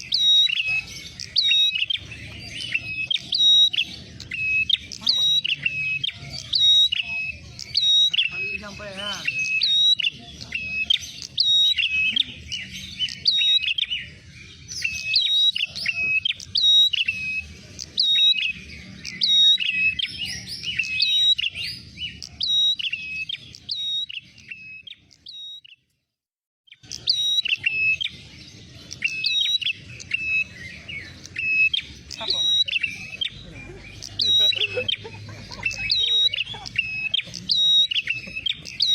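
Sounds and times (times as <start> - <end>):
songbirds chirping rapidly: 0.0 - 38.9.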